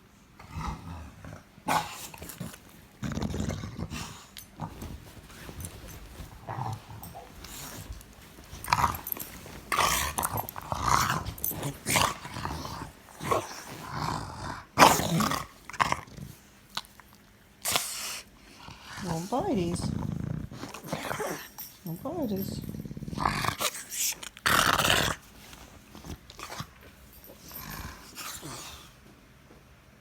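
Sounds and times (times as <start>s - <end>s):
dog growling: 0.4s - 16.4s, 18.6s - 25.3s, 27.4s - 29.0s.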